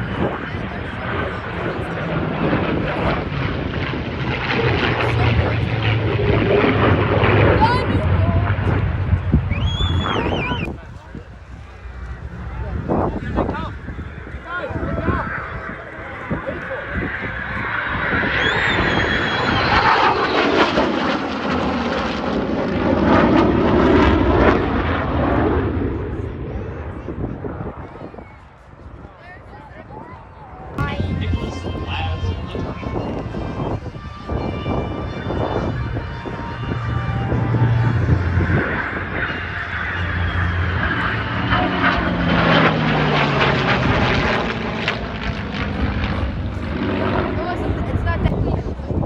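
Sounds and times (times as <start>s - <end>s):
jet engines roaring past: 0.0s - 49.0s.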